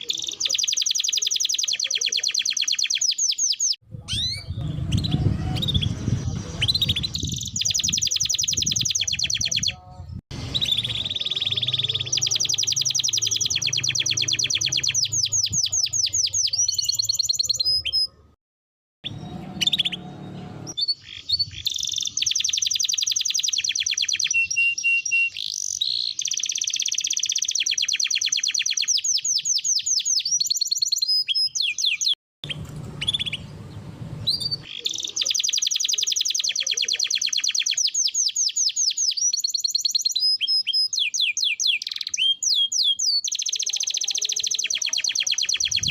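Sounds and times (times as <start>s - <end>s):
canary singing trills: 0.0s - 18.4s, 19.0s - 45.9s.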